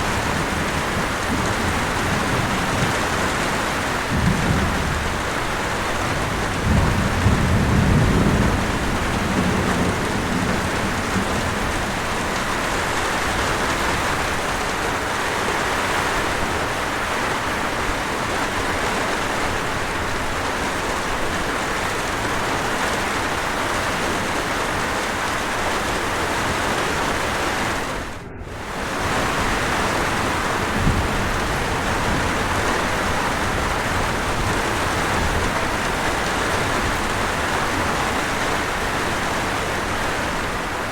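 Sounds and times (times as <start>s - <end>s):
falling water and rain hiss: 0.0s - 40.9s.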